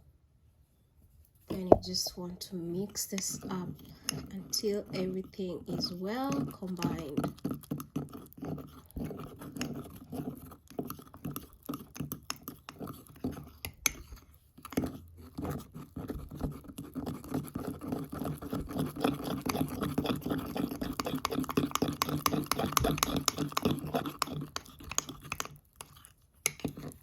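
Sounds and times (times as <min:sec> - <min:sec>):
utensil stirring batter in a mug: 0:01.6 - 0:27.0.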